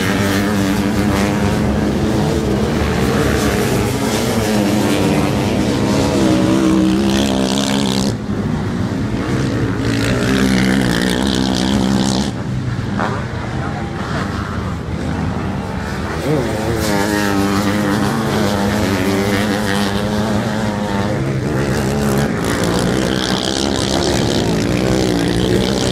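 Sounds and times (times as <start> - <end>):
motorcycle engines revving: 0.0 - 25.9.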